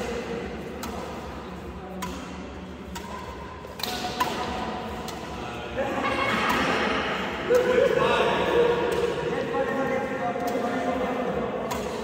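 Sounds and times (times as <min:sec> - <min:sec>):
rackets hitting shuttlecock: 0:00.0 - 0:05.4, 0:06.3 - 0:09.4, 0:10.0 - 0:12.0.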